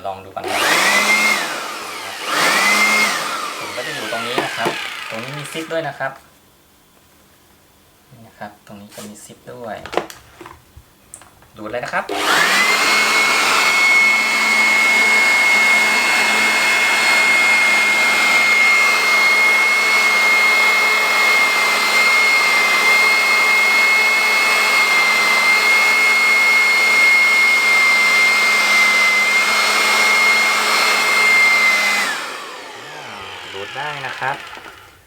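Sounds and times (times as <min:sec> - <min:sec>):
electric blower motor whine: 0:00.4 - 0:05.9, 0:12.1 - 0:35.0.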